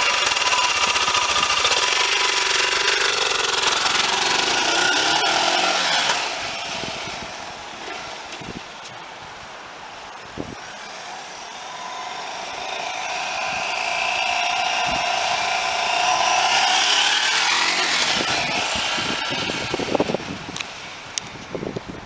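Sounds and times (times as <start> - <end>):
motorcycle engine running: 0.0 - 8.7, 10.5 - 20.8.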